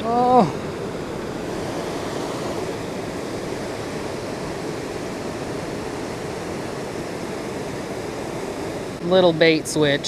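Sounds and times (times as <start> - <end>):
fast river water rushing: 0.0 - 10.0.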